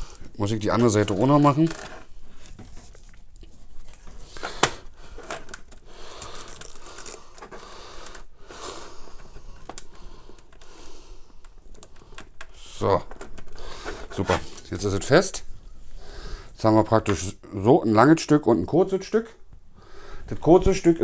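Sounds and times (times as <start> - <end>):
cable handling rustle: 0.0 - 17.3.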